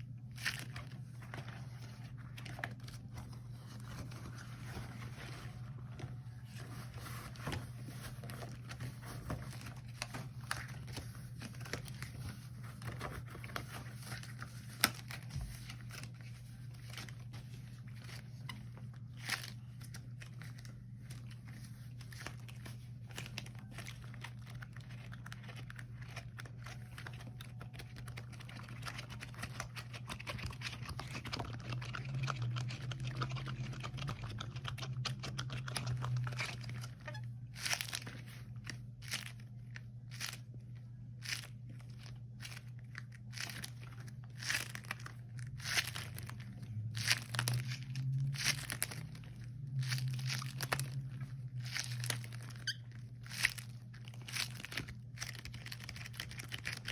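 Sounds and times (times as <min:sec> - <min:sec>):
rubber gloves crinkling: 0:00.0 - 0:56.9.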